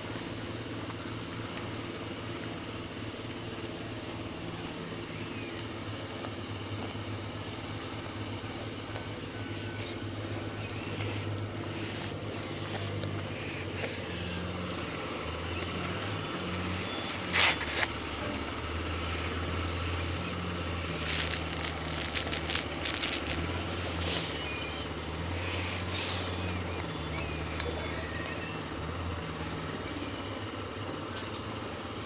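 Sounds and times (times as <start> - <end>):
cat purring: 5.9 - 32.0.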